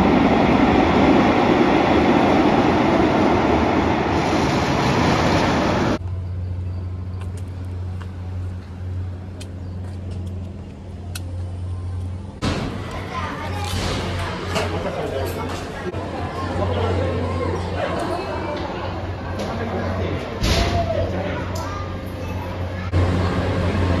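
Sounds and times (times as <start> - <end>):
roller coaster rushing rumble: 0.0 - 24.0.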